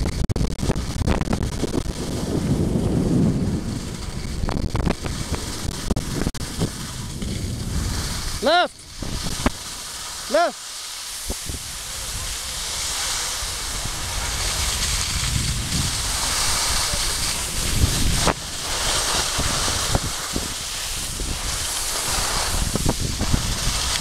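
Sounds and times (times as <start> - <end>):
wind rushing over microphone: 0.0 - 10.4, 11.1 - 24.0
skis scraping over snow: 0.7 - 24.0.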